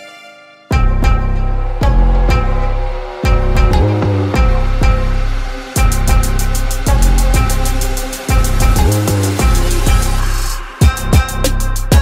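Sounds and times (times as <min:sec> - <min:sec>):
deep bass hits: 0:00.8 - 0:12.0
fast high percussion tick: 0:01.0 - 0:12.0.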